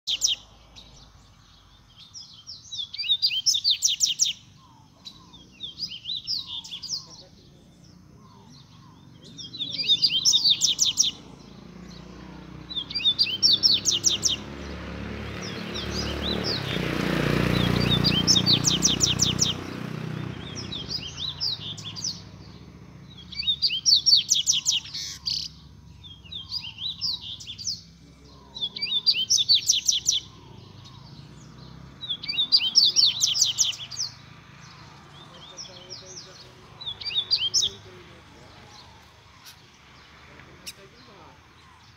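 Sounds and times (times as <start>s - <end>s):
bird singing quick repeated notes: 0.0s - 37.9s.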